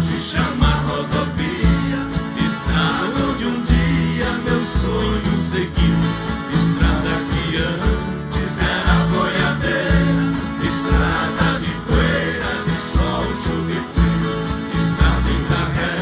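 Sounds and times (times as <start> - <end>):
person singing: 0.1 - 16.0.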